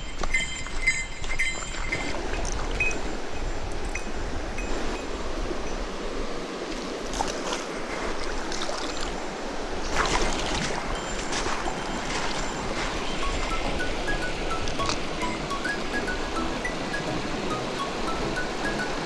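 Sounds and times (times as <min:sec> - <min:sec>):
stream water rushing over rocks: 0:01.8 - 0:19.0.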